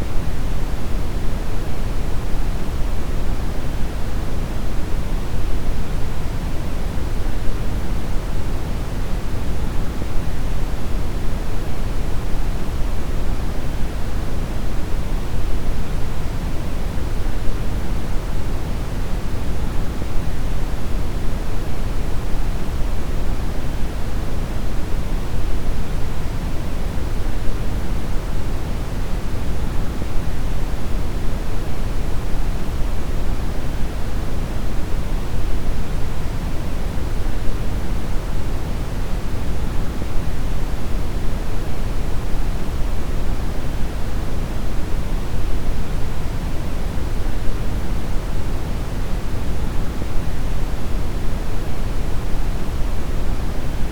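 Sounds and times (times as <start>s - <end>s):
brown noise hiss: 0.0s - 53.9s.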